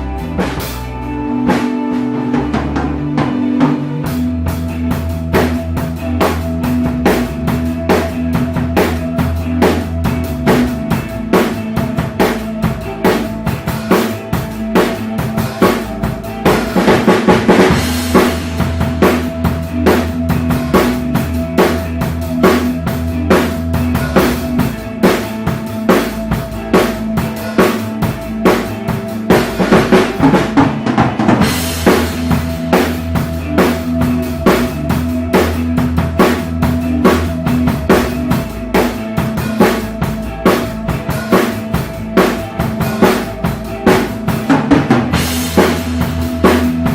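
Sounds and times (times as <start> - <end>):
bass and guitar tones: 0.0 - 46.9.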